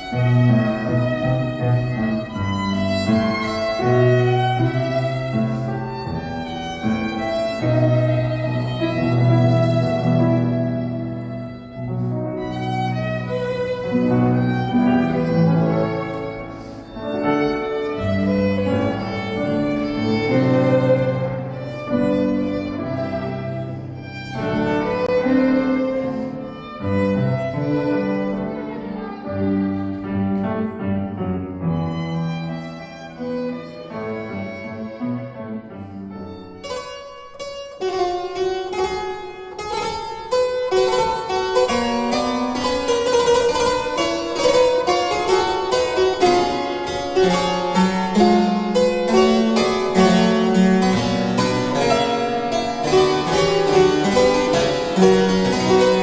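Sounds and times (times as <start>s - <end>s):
bowed strings slow melody: 0.0s - 56.0s
harpsichord plucked notes: 0.0s - 56.0s.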